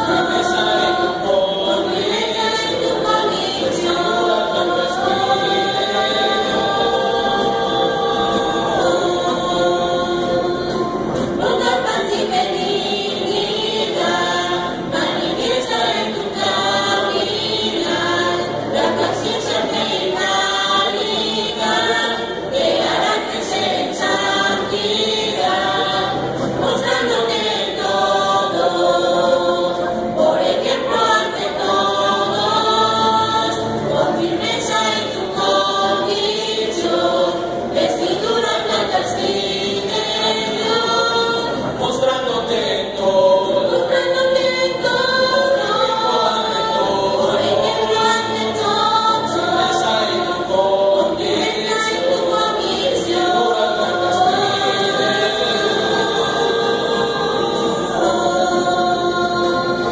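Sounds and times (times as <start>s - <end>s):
mixed choir singing a hymn: 0.0s - 59.9s
strummed acoustic guitars: 0.0s - 59.9s.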